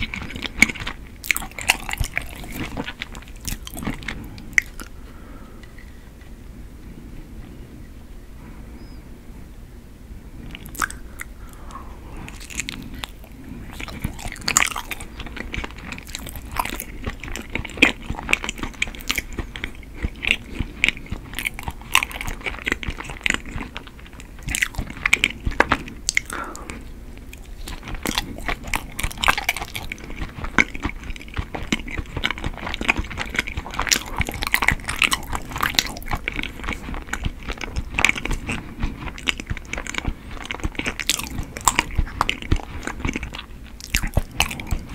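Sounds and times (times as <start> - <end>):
chewing rice cake: 0.0 - 5.9, 10.5 - 44.9.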